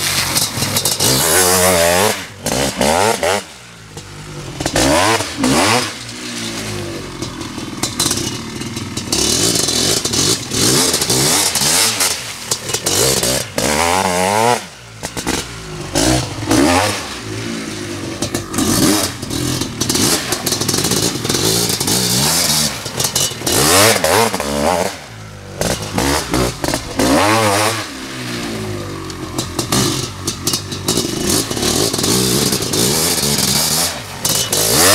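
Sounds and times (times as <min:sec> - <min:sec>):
two-stroke motocross engine revving: 0:00.0 - 0:34.9.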